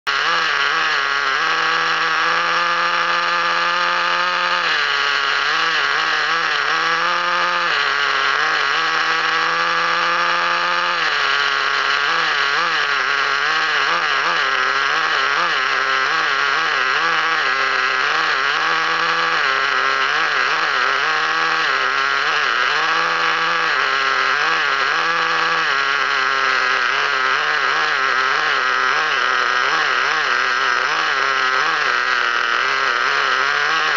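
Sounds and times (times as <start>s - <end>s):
nitro engine running: 0.0s - 33.9s.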